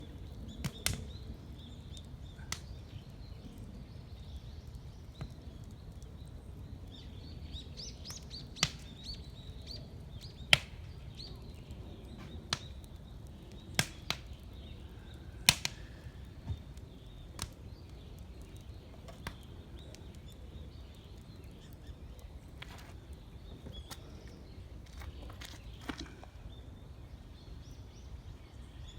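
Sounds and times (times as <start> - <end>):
faint birds chirping: 0.0 - 28.9
wood fire popping and cracking: 0.0 - 28.9.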